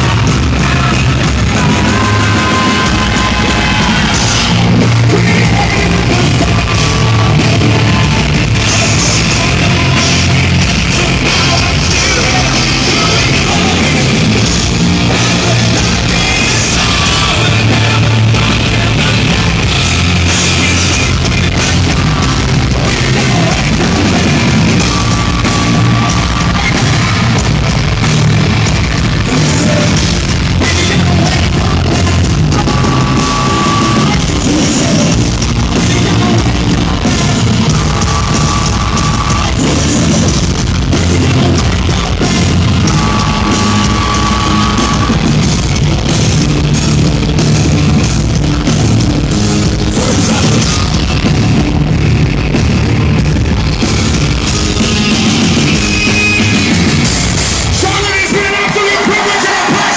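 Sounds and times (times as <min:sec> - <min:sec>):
live hard rock band: 0:00.0 - 0:59.9.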